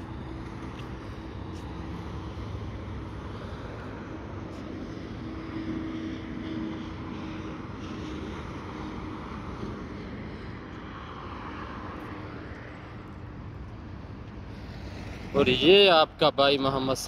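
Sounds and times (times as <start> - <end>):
engine and tyres rumbling on road: 0.0 - 17.0.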